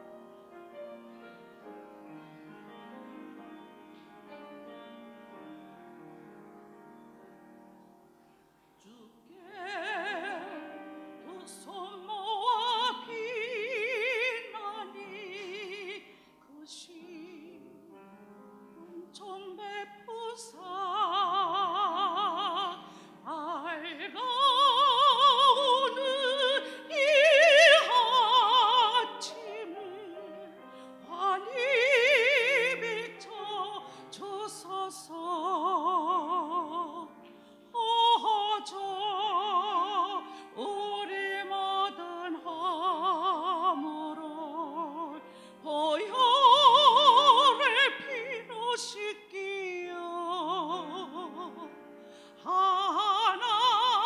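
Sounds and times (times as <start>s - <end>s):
soft musical accompaniment: 0.0s - 54.0s
woman singing a hymn: 8.8s - 18.1s, 18.7s - 54.0s.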